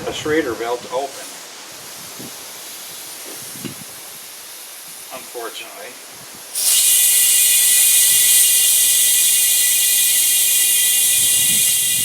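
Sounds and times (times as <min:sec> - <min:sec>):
compressed air hissing into tire: 0:01.6 - 0:05.5, 0:06.1 - 0:12.0.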